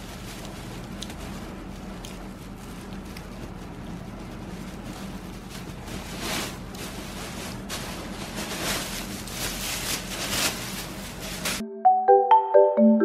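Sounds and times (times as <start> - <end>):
plastic bag rustling and crinkling: 0.0 - 11.6.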